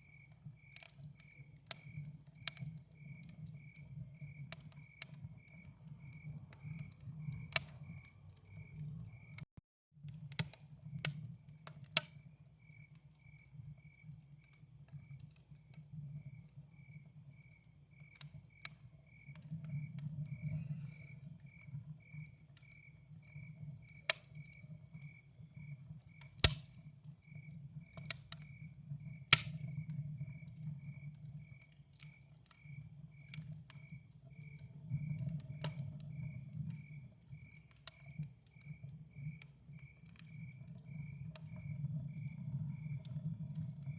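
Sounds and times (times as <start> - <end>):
campfire crackling and popping: 0.0 - 9.4, 10.0 - 43.9
crickets chirping: 0.0 - 9.4, 12.1 - 15.3, 16.1 - 43.9.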